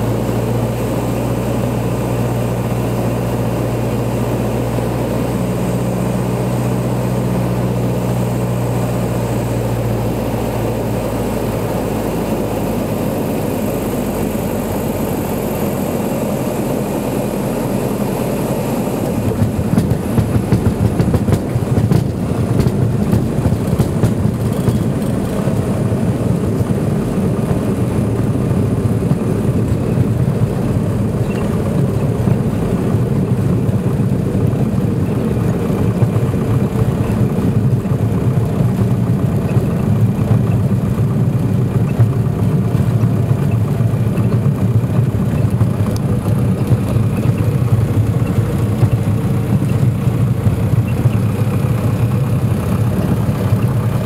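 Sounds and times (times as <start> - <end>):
light aircraft engine droning: 0.0 - 54.0
wheels rumbling on runway: 0.0 - 54.0.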